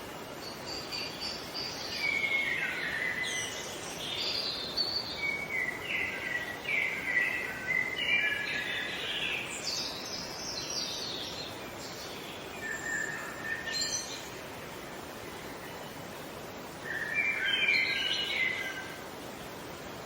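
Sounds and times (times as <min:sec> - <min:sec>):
songbirds chirping: 0:00.0 - 0:20.0
steady background hiss: 0:00.0 - 0:20.0.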